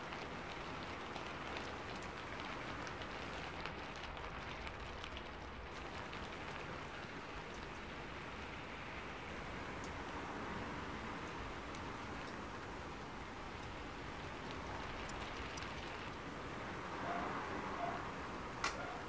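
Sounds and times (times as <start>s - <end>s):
rain patter: 0.0s - 19.0s.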